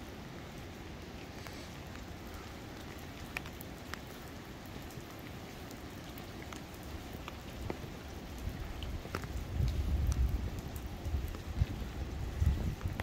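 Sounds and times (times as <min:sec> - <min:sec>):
rain falling: 0:00.0 - 0:13.0
sharp raindrop ticks: 0:00.0 - 0:13.0.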